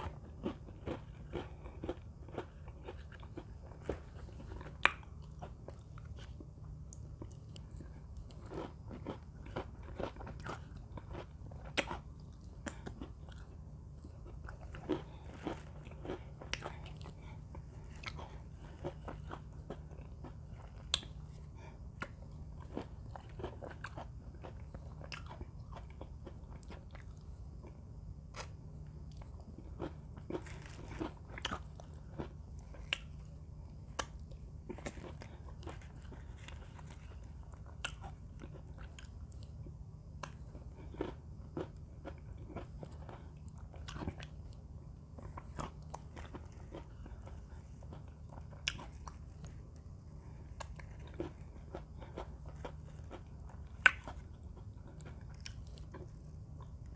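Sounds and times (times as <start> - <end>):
crunching and chewing cookies: 0.0 - 56.9.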